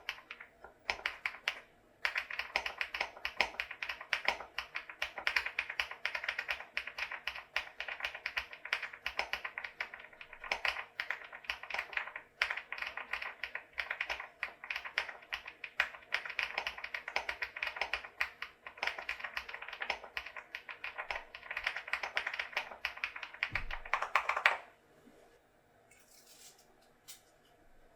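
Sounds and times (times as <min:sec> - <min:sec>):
mechanical keyboard typing: 0:00.0 - 0:24.7.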